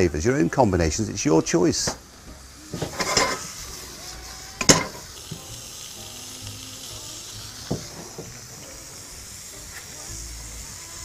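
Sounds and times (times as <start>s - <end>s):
mushrooms sizzling in a frying pan: 0.0s - 11.0s.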